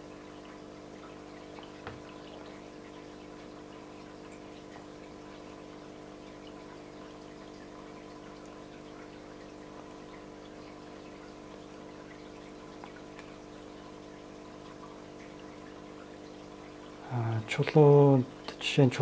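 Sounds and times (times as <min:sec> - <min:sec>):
water dripping into dish: 0:00.0 - 0:18.7
faint pump motor hum: 0:00.0 - 0:19.0.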